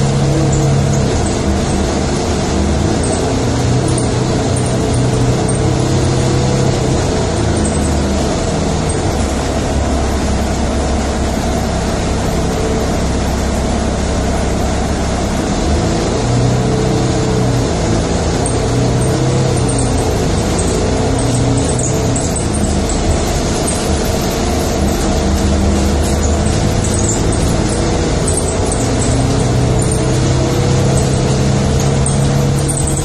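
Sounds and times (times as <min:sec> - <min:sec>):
low engine hum: 0:00.0 - 0:33.0
road noise in vehicle cabin: 0:00.0 - 0:33.0.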